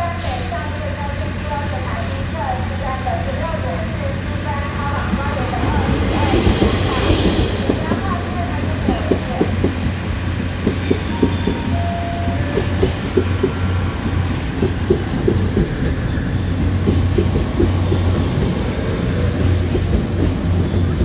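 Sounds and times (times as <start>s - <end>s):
diesel train engine drone: 0.0s - 21.0s.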